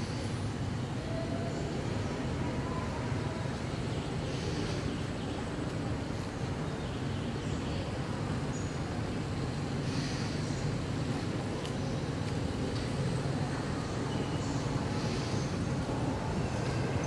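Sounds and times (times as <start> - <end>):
low rumbling outdoor background noise: 0.0 - 17.0.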